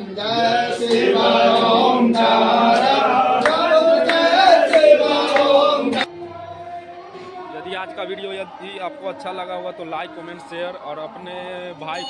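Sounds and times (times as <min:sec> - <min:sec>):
voices singing devotional chant: 0:00.0 - 0:10.7.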